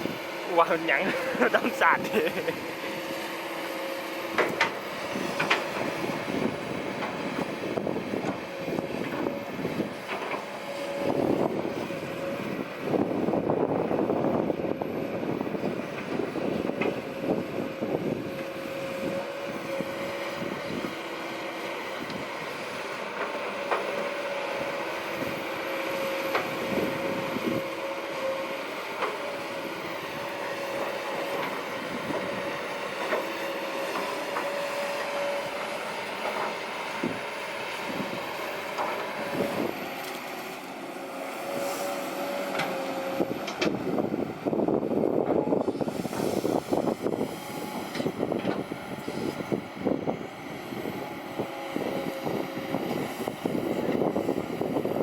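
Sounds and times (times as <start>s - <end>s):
excavator engine and hydraulics whine: 0.0s - 55.0s.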